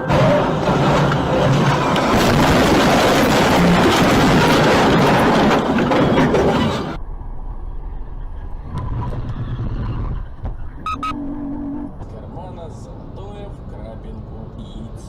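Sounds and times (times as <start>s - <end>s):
low engine and road rumble: 0.0s - 15.0s.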